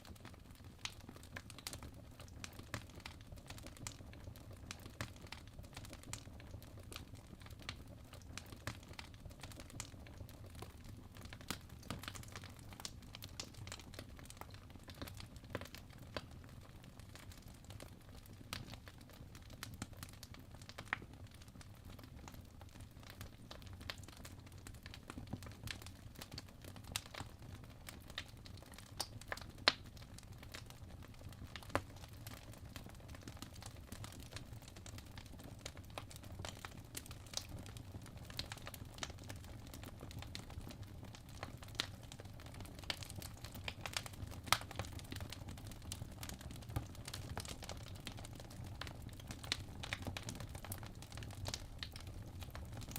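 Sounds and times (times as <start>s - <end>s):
fire crackling and popping: 0.0s - 52.9s.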